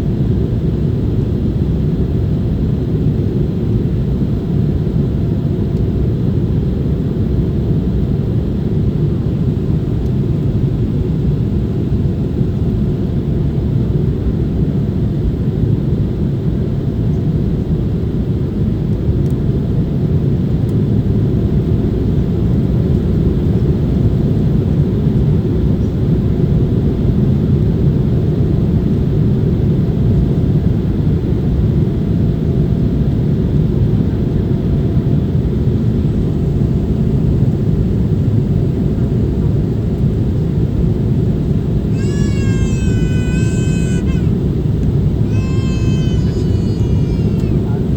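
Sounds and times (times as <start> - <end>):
jet engines in airplane cabin: 0.0 - 47.9.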